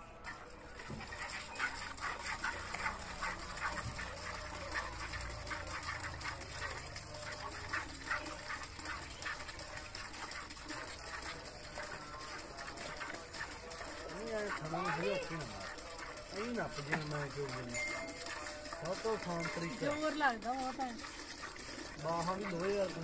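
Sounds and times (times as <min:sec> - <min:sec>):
milk squirting into steel pail: 0:00.0 - 0:23.0.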